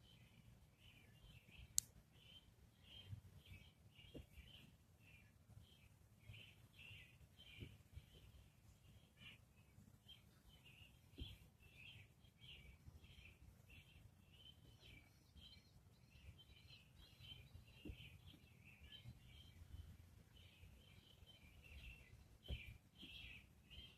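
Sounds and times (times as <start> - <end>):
faint bird chirping: 0.0 - 23.9.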